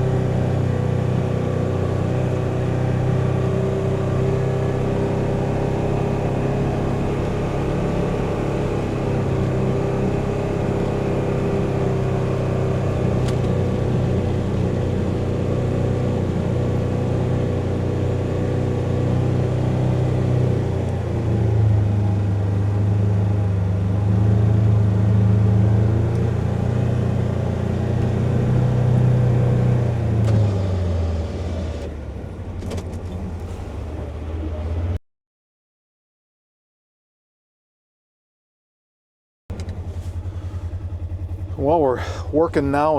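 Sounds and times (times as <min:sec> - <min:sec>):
engine running under load: 0:00.0 - 0:35.0, 0:39.5 - 0:42.9.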